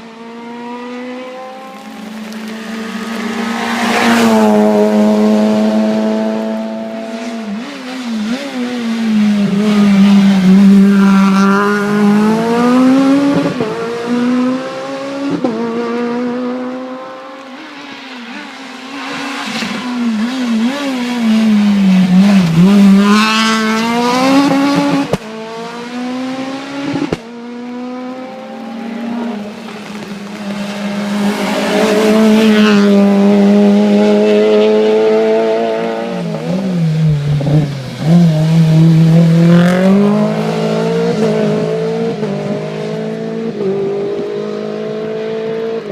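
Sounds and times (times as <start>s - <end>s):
rally cars driving by revving: 0.0s - 45.9s.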